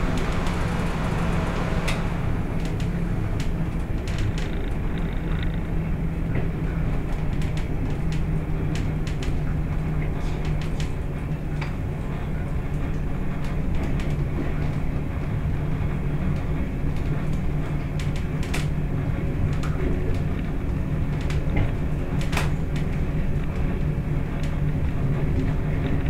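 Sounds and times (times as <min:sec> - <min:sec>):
diesel engine drone: 0:00.0 - 0:26.0
train running on track: 0:00.0 - 0:26.0.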